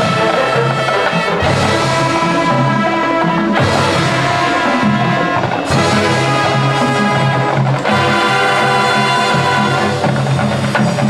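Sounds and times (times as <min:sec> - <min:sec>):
brass chords: 0:00.0 - 0:11.0
cymbals: 0:00.0 - 0:11.0
marching band playing: 0:00.0 - 0:11.0.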